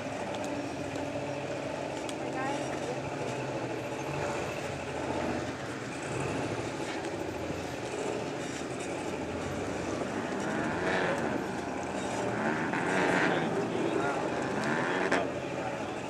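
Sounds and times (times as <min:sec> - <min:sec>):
buggy engines revving: 0:00.0 - 0:16.0.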